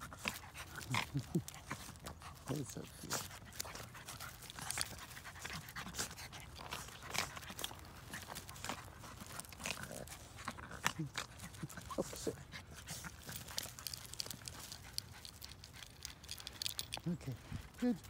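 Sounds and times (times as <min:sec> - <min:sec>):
dogs panting: 0:00.0 - 0:18.0
paws crunching wood chips: 0:00.0 - 0:18.0.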